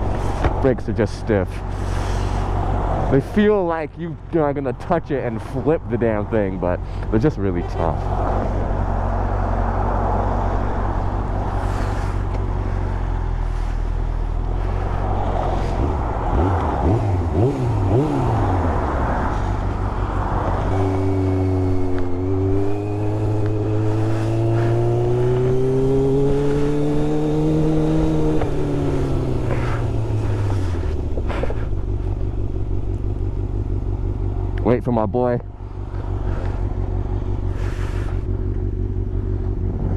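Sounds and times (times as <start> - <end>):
motorcycle engine revving: 5.3 - 39.9.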